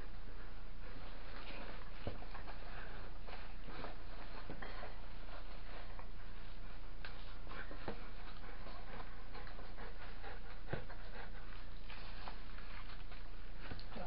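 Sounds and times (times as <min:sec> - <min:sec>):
large dog panting: 0:00.8 - 0:13.7.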